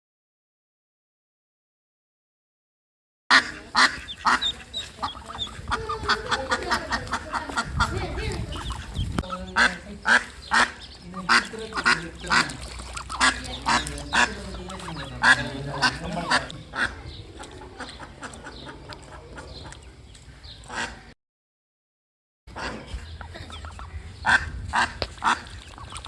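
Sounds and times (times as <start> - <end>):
ducks quacking: 3.3 - 21.2, 22.5 - 26.0.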